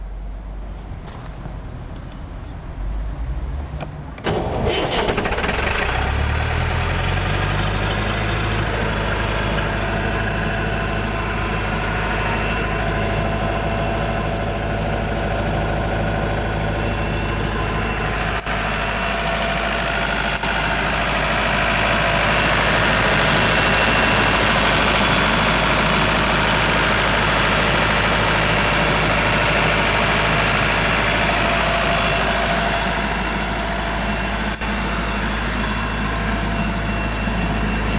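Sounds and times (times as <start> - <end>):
air compressor engine running: 4.2 - 37.9.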